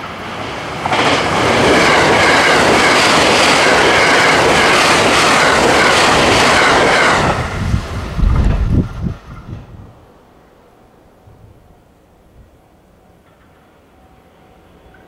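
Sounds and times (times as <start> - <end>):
electric train passing at speed: 0.0 - 15.0.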